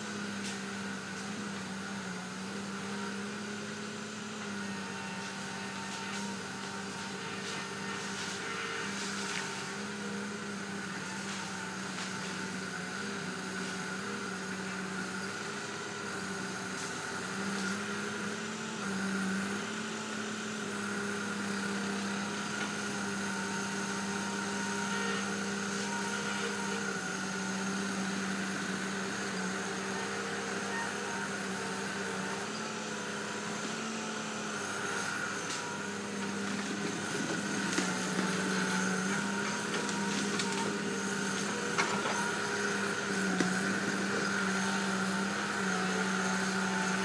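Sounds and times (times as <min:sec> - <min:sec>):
diesel engine hum: 0:00.0 - 0:47.0.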